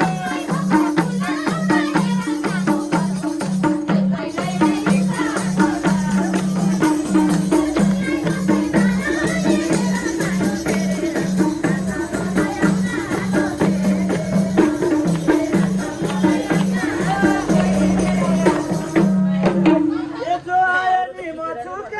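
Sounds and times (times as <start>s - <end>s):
hand percussion with jingles: 0.0s - 19.8s.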